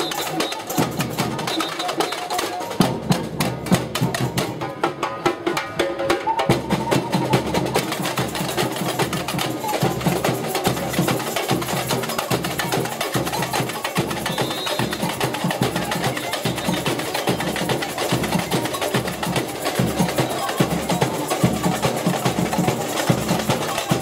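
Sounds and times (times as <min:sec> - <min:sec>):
hand percussion: 0:00.0 - 0:24.0
marching snare drums: 0:00.0 - 0:24.0.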